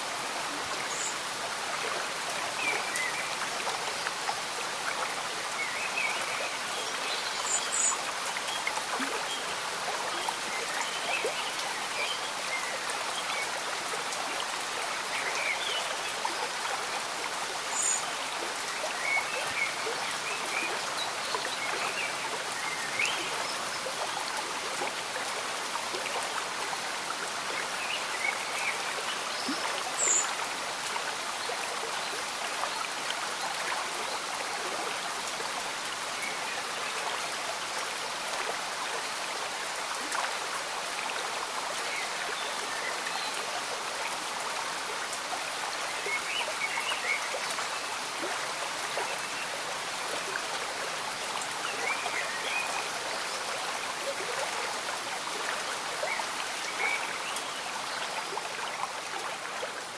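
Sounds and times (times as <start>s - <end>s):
light rain falling: 0.0s - 59.9s
stream bubbling and trickling: 0.0s - 59.9s.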